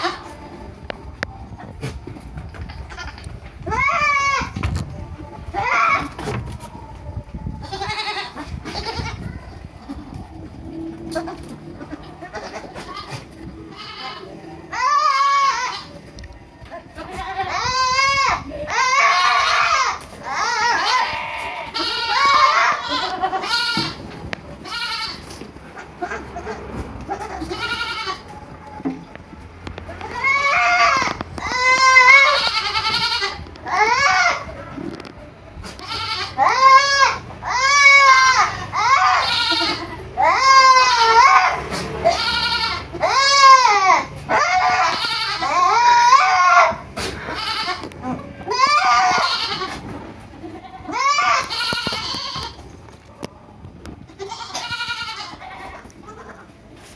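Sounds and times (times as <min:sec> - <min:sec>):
goats bleating: 0:00.0 - 0:00.6, 0:01.8 - 0:04.8, 0:05.4 - 0:06.8, 0:07.6 - 0:28.8, 0:29.8 - 0:34.8, 0:35.6 - 0:52.7, 0:54.0 - 0:56.8.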